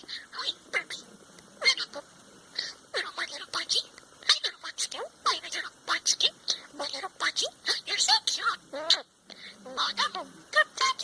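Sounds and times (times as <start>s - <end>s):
parrot squawking: 0.0s - 1.0s, 1.6s - 11.0s.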